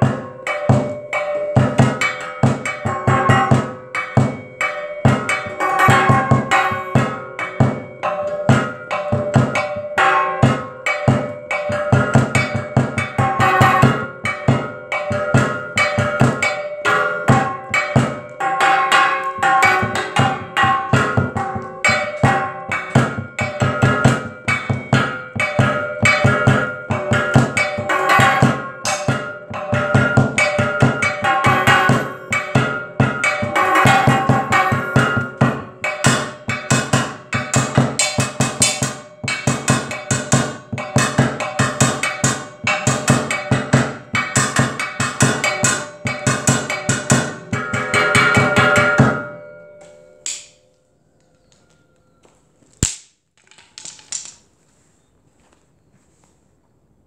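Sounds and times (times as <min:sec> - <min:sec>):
scattered knocks: 0:00.1 - 0:49.3
steel pieces ringing: 0:00.5 - 0:09.2, 0:15.1 - 0:51.8, 0:52.8 - 0:54.5.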